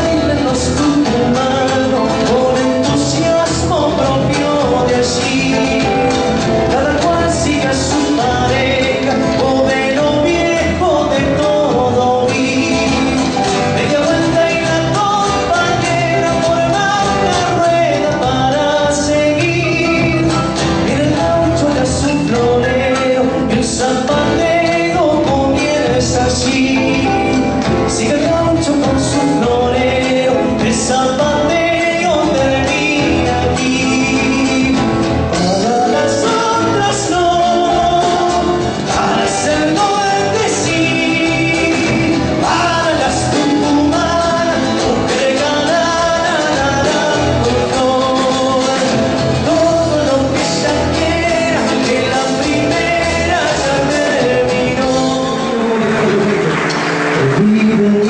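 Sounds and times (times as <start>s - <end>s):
electric bass: 0.0s - 58.0s
guitars: 0.0s - 58.0s
man singing: 0.0s - 58.0s.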